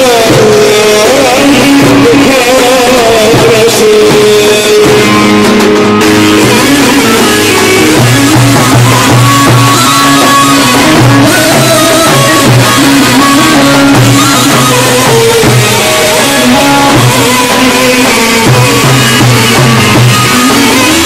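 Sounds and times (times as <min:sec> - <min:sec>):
bass drums beaten: 0:00.0 - 0:21.0.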